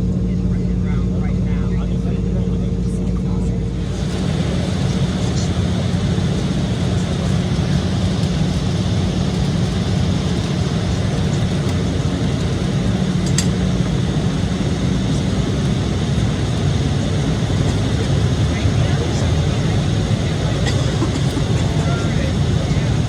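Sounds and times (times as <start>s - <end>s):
aircraft cabin drone: 0.0s - 23.0s.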